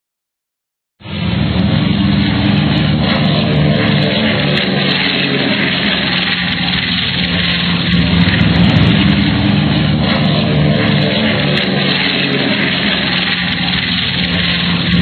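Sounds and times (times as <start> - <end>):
helicopter engine and rotor drone: 1.0 - 15.0.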